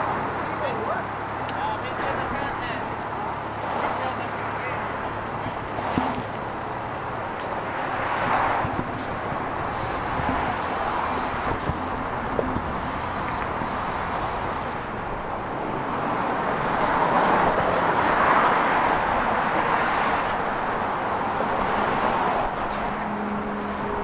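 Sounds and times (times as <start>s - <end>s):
road traffic: 0.0s - 24.0s
vehicle passing: 0.0s - 24.0s.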